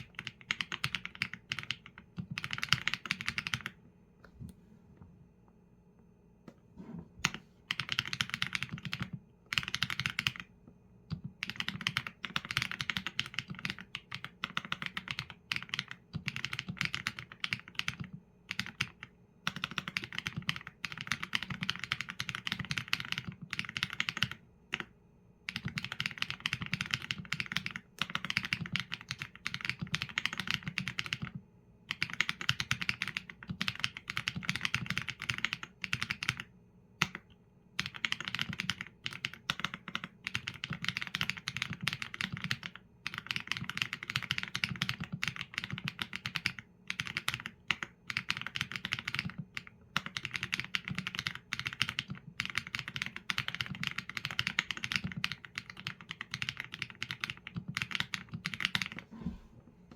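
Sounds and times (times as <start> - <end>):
mechanical keyboard typing: 0.0 - 3.8, 7.2 - 10.5, 11.1 - 24.9, 25.5 - 59.0.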